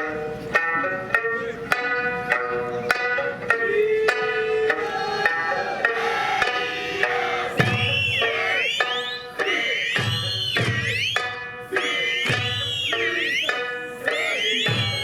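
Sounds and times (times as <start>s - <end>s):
plucked string instrument: 0.0s - 9.6s, 10.6s - 15.0s
drum strikes in steady beat: 0.0s - 15.0s.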